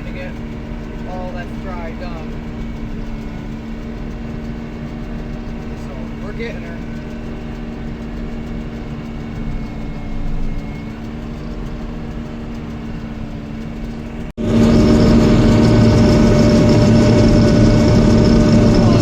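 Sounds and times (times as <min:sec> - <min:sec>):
combine harvester engine hum: 0:00.0 - 0:19.0.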